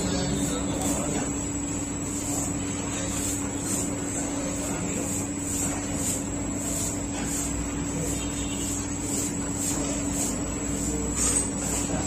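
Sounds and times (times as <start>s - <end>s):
thin high whine: 0.0s - 11.9s
bakery machinery humming: 0.0s - 12.0s.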